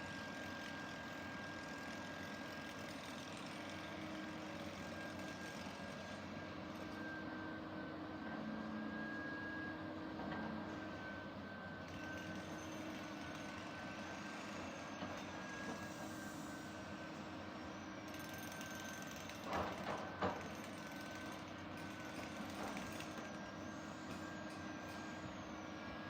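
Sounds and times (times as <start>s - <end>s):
excavator engine with high whine: 0.0s - 26.0s.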